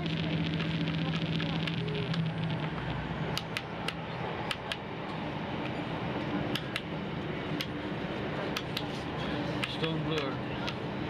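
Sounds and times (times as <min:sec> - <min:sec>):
train running over track: 0:00.0 - 0:10.9
train hum: 0:00.0 - 0:11.0.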